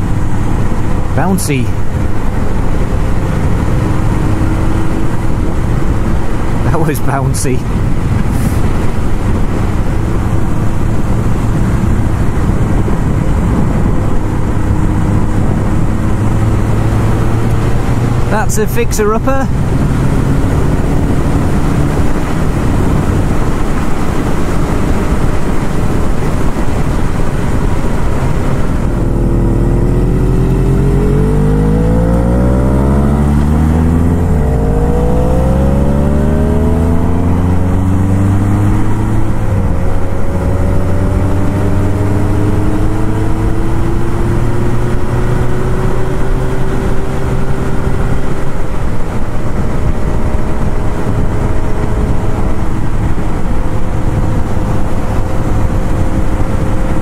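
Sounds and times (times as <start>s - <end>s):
heavy wind rush: 0.0s - 57.0s
motorcycle engine accelerating: 0.0s - 57.0s.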